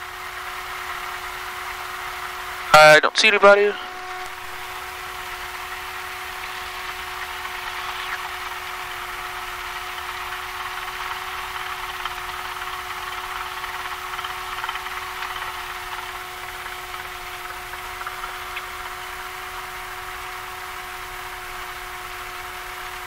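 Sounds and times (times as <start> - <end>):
propeller plane engine idling: 3.6 - 23.0.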